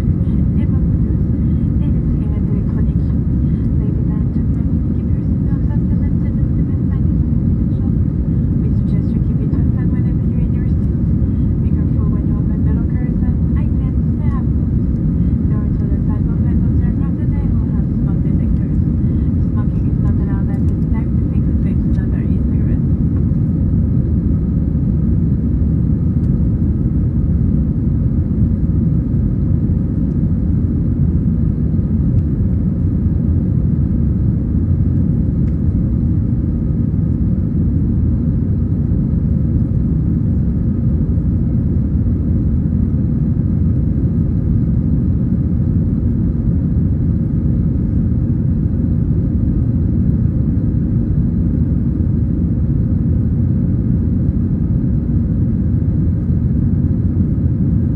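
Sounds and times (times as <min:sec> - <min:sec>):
airplane cabin low rumble: 0:00.0 - 0:57.9.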